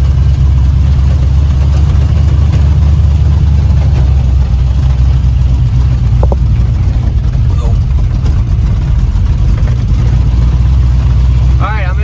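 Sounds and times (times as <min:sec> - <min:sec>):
engine rumbling at low revs: 0:00.0 - 0:12.0.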